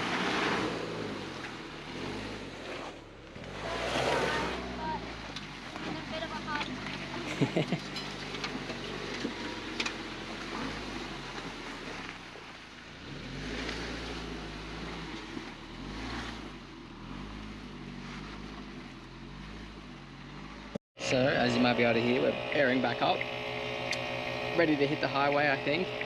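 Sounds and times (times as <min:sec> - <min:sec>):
car engine running at low revs: 0:00.0 - 0:26.0.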